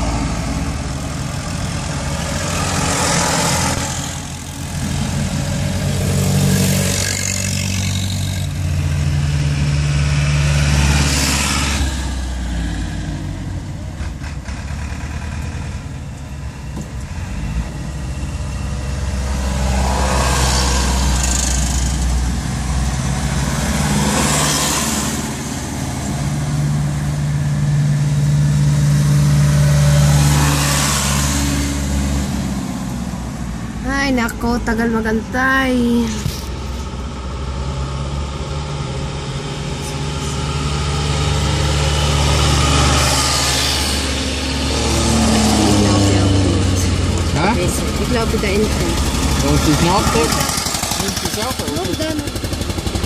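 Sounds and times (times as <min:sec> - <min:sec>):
tractor engines driving past: 0:00.0 - 0:53.0.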